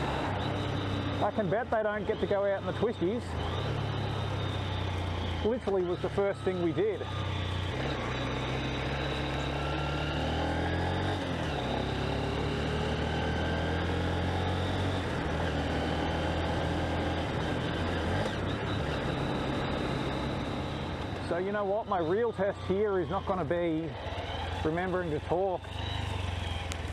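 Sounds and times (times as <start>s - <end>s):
motorcycle engine while riding: 0.0s - 26.9s.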